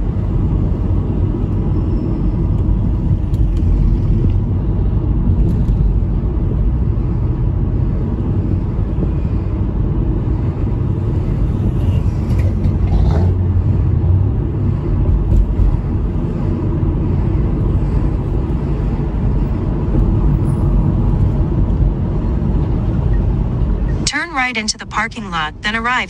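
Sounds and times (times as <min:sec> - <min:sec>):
car engine hum: 0:00.0 - 0:26.0
road noise: 0:00.0 - 0:26.0.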